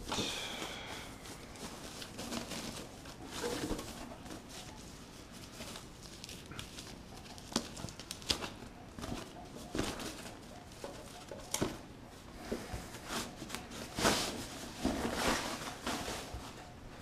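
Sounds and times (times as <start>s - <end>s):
plastic bag rustling and crinkling: 0.0s - 17.0s.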